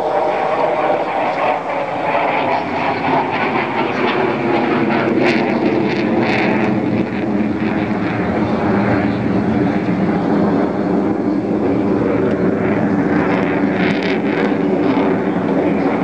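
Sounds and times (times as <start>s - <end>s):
jet engine flying overhead: 0.0s - 16.0s.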